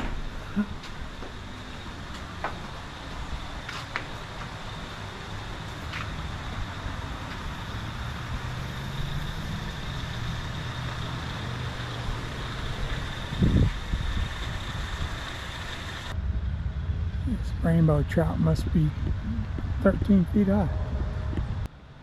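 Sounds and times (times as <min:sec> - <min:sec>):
low engine hum: 0:00.0 - 0:22.0
road traffic rumble: 0:00.0 - 0:22.0.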